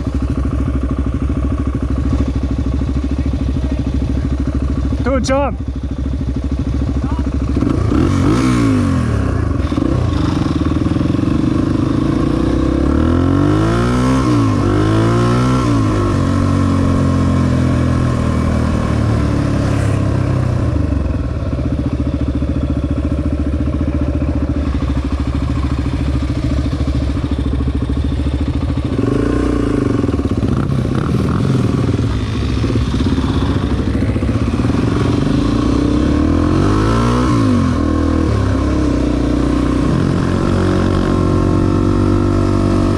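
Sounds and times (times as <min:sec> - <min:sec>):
dirt bike engine revving: 0:07.0 - 0:21.9, 0:23.0 - 0:42.9.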